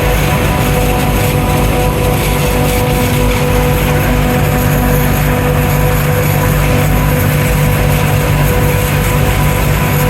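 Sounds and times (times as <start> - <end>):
diesel machinery drone: 0.0 - 10.0
steady machine whine: 0.0 - 10.0.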